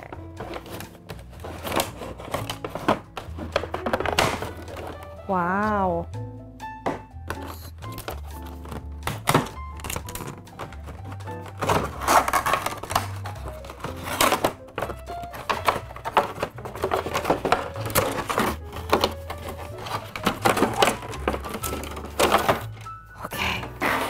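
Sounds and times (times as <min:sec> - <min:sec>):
packaging clicks and rustles: 0:00.0 - 0:05.2, 0:07.3 - 0:24.0.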